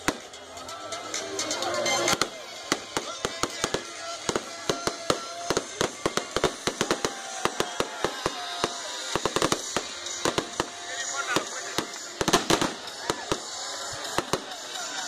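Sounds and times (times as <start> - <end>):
fireworks bangs and cracks: 0.0 - 0.4, 2.0 - 15.0.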